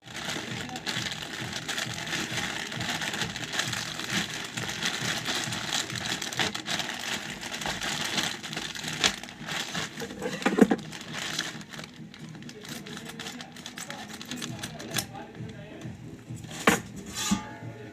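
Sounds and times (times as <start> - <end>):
plastic packet crinkling: 0.0 - 15.5.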